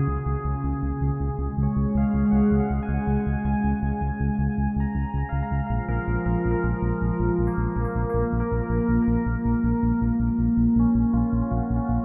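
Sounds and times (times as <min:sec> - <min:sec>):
ambient music with low pulse: 0:00.0 - 0:12.0.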